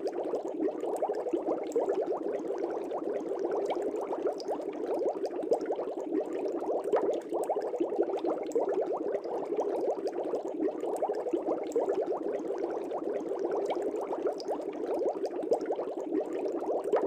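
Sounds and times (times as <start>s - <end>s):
aquarium air bubbles burbling: 0.0s - 17.0s.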